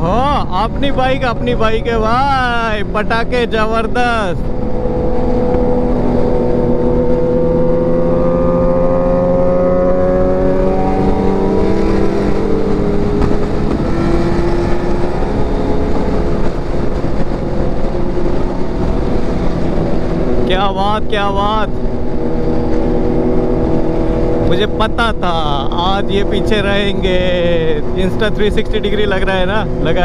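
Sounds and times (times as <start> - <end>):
motorcycle engine accelerating: 0.0 - 30.0
wind and road noise: 0.0 - 30.0.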